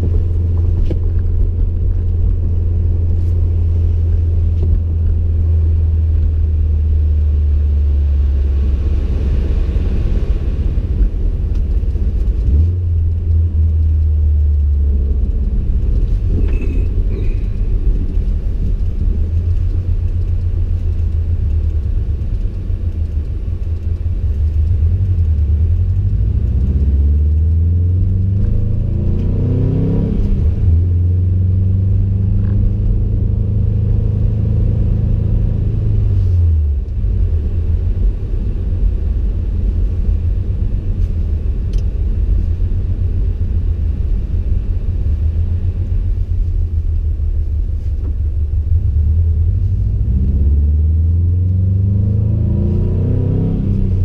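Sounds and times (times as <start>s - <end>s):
car engine droning in cabin: 0.0s - 54.0s.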